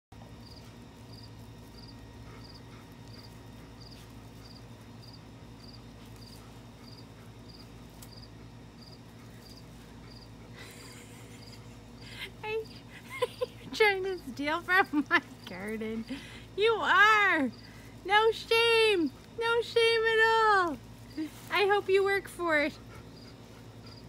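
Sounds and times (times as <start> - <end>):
low steady hum: 0.1 - 24.0
cricket chirping: 0.2 - 16.6, 17.4 - 21.4.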